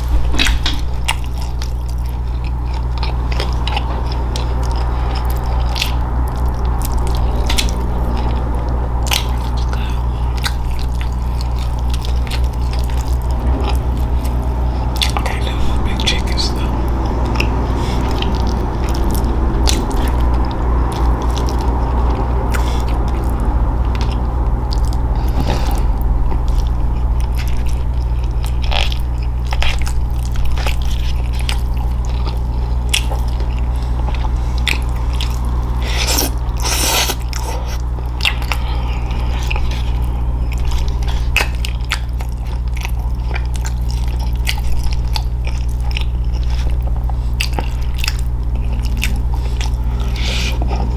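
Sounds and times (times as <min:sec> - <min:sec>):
chewing and crunching food: 0:00.0 - 0:50.9
low hum: 0:00.0 - 0:50.9.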